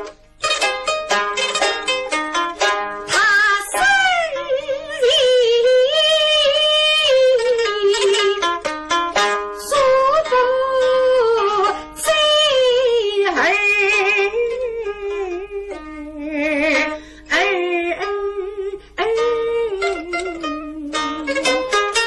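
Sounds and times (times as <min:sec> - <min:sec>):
plucked lutes: 0:00.0 - 0:22.0
woman singing: 0:03.1 - 0:08.7, 0:09.6 - 0:22.0.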